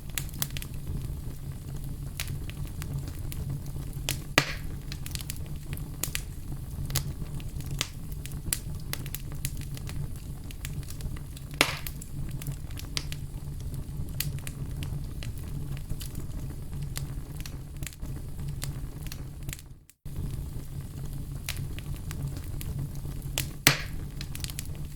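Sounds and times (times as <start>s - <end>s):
fire crackling and popping: 0.0s - 24.9s.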